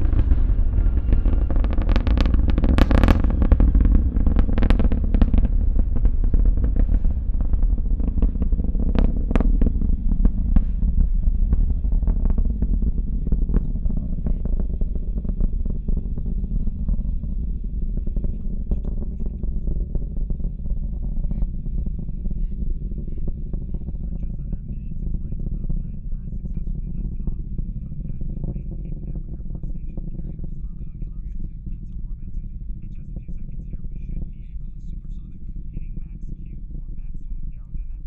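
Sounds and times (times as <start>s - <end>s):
rocket engines rumbling and crackling: 0.0s - 38.0s.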